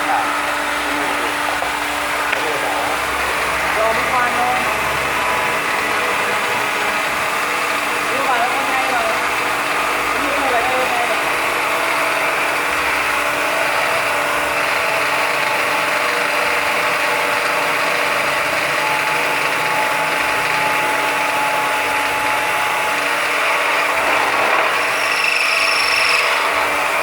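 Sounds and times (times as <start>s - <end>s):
drilling machine rattle: 0.0s - 27.0s
thin whine: 0.0s - 27.0s.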